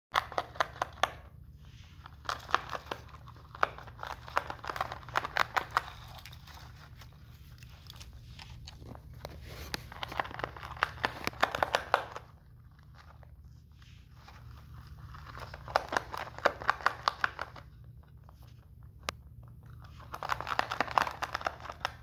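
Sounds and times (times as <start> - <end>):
rabbit gnawing pine cone: 0.2 - 22.0.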